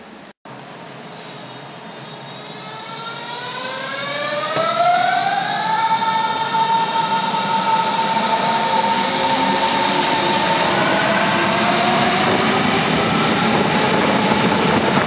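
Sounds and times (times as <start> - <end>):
electric train drive whine: 2.2 - 15.0.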